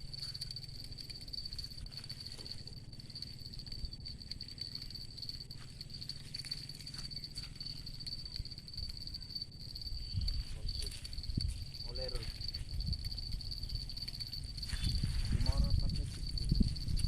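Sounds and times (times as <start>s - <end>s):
faint ticks: 0.0s - 15.0s
high-pitched insect drone: 0.0s - 17.0s
low steady rumble: 0.0s - 17.0s.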